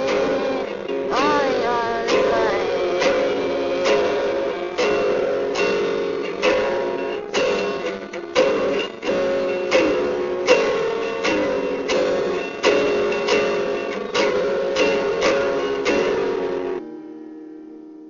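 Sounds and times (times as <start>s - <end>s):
guitar chords strummed: 0.0s - 18.0s.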